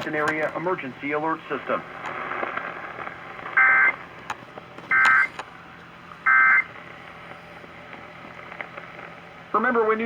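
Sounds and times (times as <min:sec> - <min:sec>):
faint radio hiss: 0:00.0 - 0:10.0.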